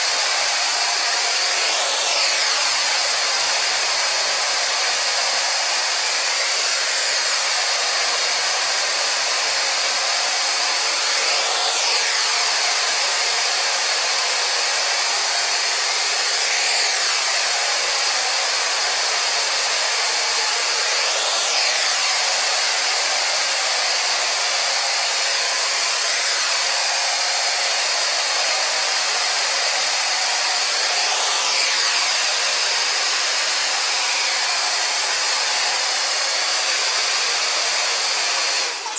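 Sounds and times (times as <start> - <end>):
robot vacuum cleaner whirring: 0.0 - 38.9.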